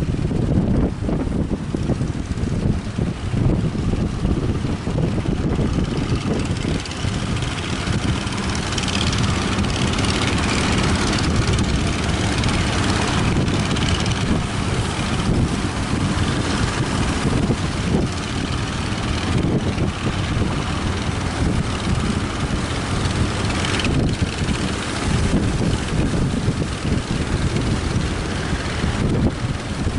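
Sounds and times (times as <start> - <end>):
boat engine running: 0.0 - 29.9
waves: 0.0 - 29.9
wind buffeting microphone: 0.0 - 29.9.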